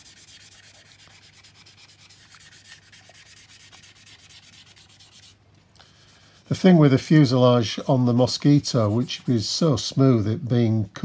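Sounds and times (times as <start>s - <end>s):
sandpaper rubbing plastic: 0.0s - 5.4s, 6.0s - 10.0s.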